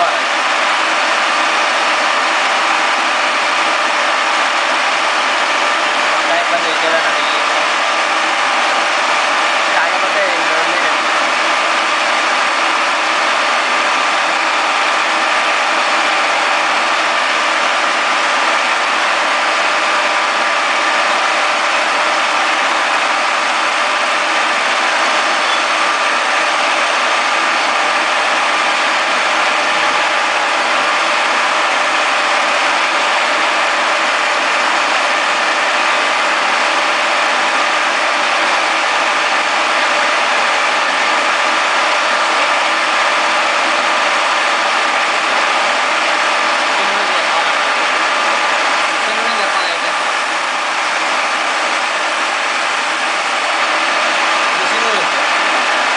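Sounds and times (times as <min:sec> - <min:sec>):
milling machine whine: 0:00.0 - 0:55.9.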